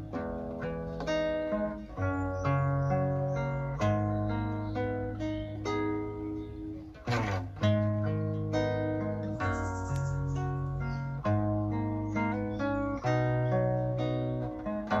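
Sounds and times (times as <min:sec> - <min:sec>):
acoustic guitar plucked notes: 0:00.0 - 0:15.0.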